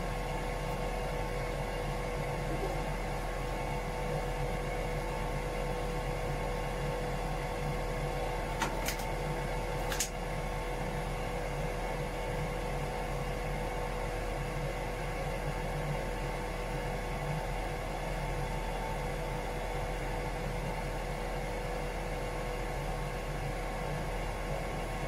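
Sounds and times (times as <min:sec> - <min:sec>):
engine room machinery hum: 0:00.0 - 0:25.0.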